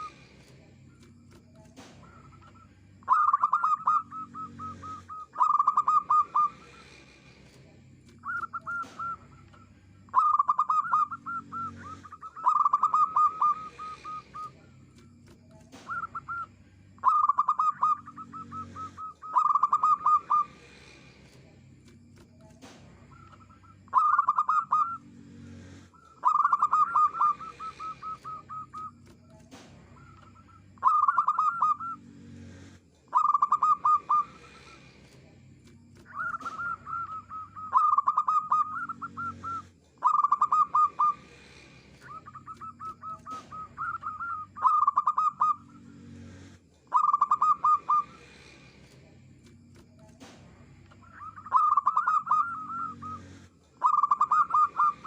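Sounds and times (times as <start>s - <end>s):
dove cooing: 1.8s - 7.6s, 8.2s - 21.0s, 23.1s - 35.0s, 36.0s - 48.6s, 51.0s - 55.0s.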